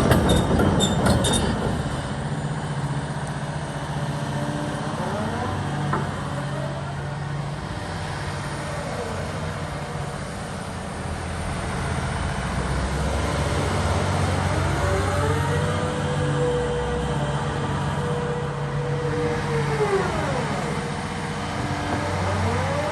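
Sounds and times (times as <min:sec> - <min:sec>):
excavator engine hum: 0:00.0 - 0:22.9.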